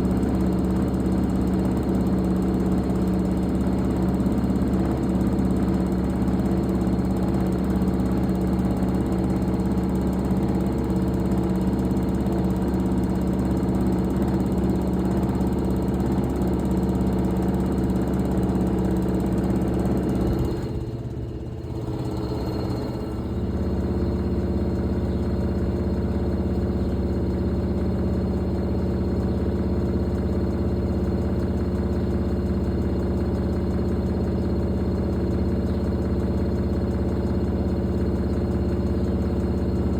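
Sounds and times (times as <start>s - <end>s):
washing machine hum: 0.0s - 39.9s.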